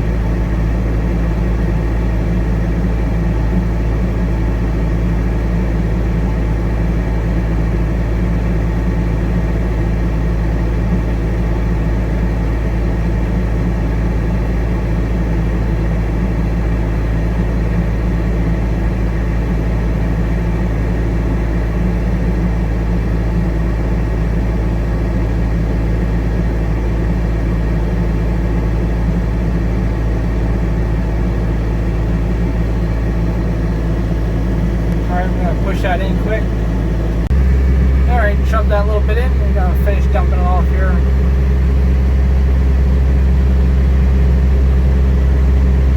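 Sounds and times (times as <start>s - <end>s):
heavy diesel engine humming: 0.0s - 45.9s.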